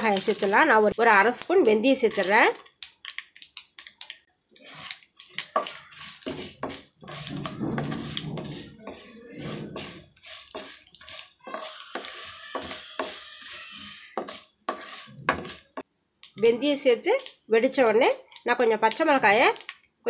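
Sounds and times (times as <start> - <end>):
spatula stirring in pan: 0.0 - 19.8
seeds crackling in hot oil: 0.0 - 20.0.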